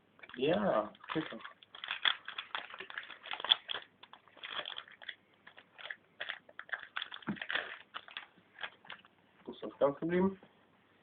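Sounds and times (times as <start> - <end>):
foil wrapper crinkling: 0.2 - 9.1.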